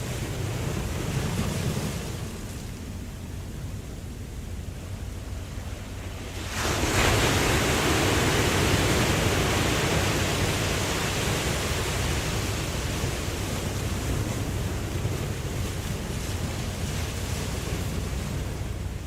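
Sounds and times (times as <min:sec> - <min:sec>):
ocean wave breaking: 0:00.0 - 0:03.8, 0:05.1 - 0:19.0
low surf rumble: 0:00.0 - 0:19.0.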